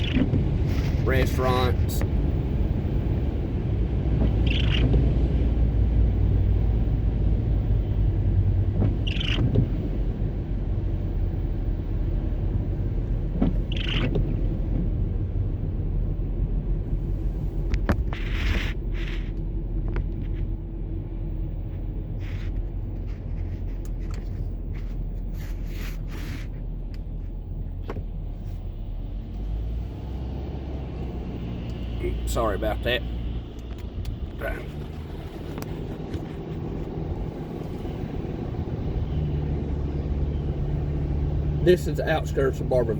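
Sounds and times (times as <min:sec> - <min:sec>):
car road noise rumble: 0:00.0 - 0:42.9.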